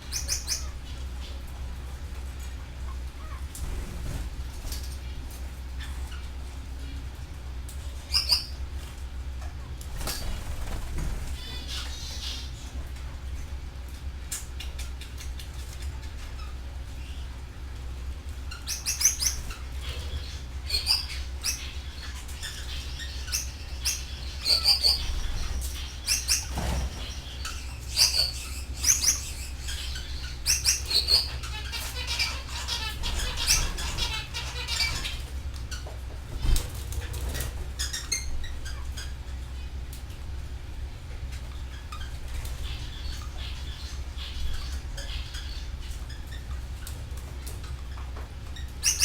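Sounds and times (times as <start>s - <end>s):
canaries chirping: 0.0s - 8.7s, 9.9s - 13.4s, 14.2s - 40.2s, 40.9s - 49.0s.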